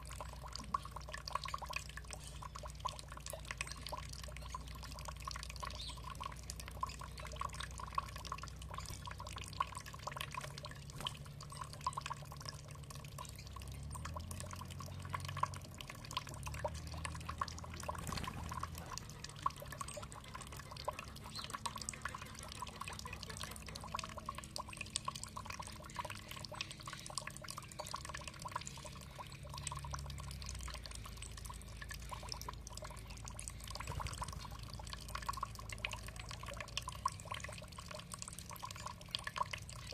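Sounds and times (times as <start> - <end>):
flowing water: 0.0 - 39.9
water dripping: 0.0 - 39.9.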